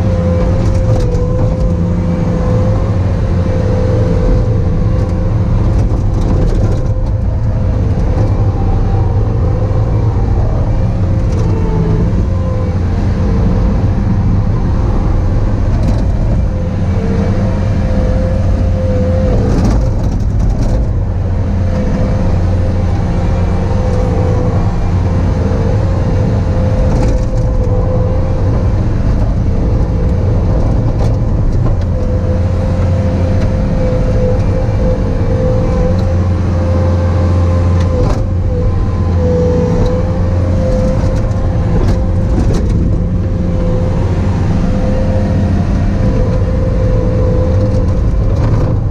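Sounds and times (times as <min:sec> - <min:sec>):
constant machine whine: 0:00.0 - 0:48.9
diesel engine under load: 0:00.0 - 0:48.9.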